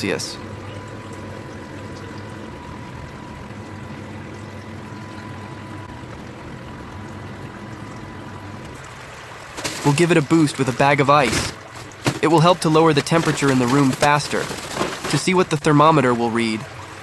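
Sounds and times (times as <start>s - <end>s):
fan hum: 0.0s - 17.0s
water pouring and trickling: 0.0s - 17.0s.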